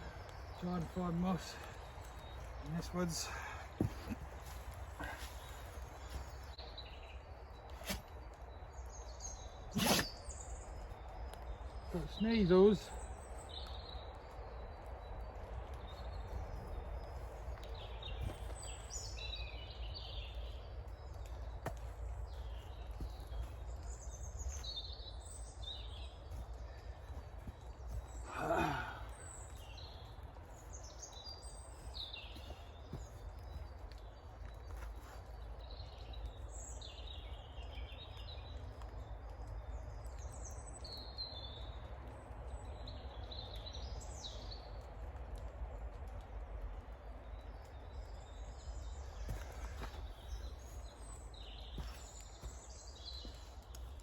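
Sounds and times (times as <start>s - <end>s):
low wind rumble: 0.0s - 54.0s
songbirds chirping: 0.0s - 54.0s.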